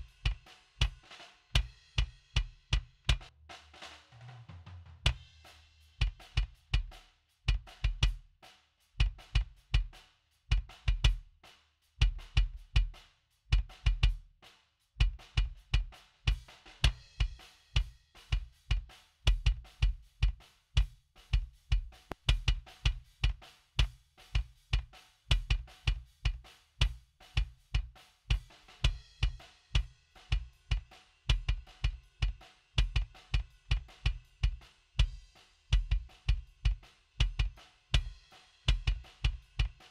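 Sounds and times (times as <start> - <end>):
drum kit rock groove: 0.0 - 39.9.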